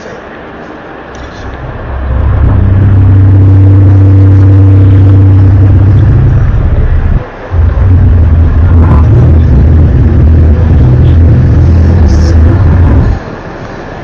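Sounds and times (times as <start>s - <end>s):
loud low droning hum: 0.0s - 14.0s.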